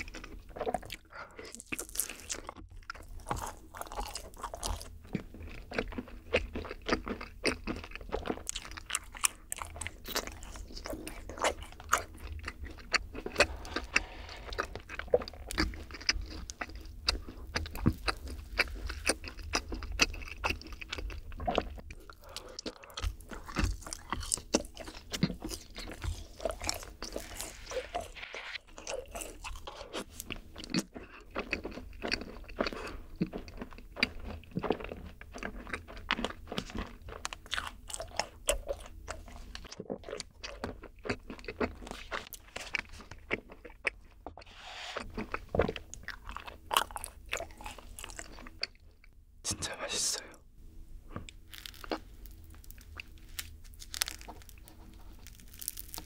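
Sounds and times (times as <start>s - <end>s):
cookies crunching while chewing: 0.0s - 50.4s, 51.0s - 56.0s.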